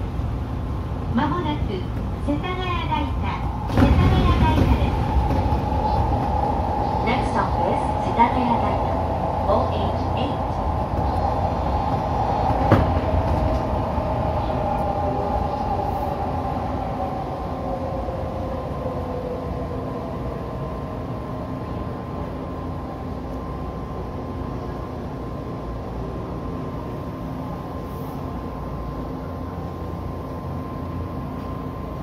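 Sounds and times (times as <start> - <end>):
train rumble in tunnel: 0.0 - 32.0.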